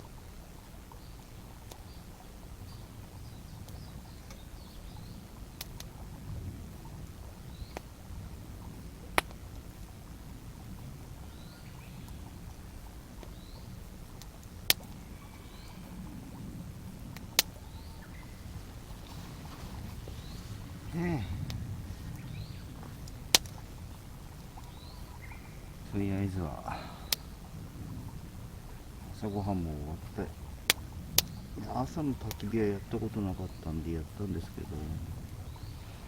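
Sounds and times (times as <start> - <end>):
campfire popping and snapping: 0.0 - 36.0.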